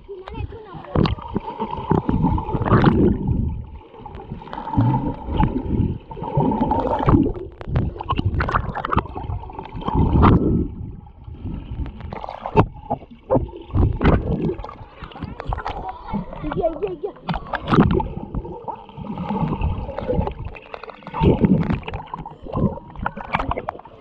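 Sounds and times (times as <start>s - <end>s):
water gurgling and sloshing: 0.0s - 24.0s.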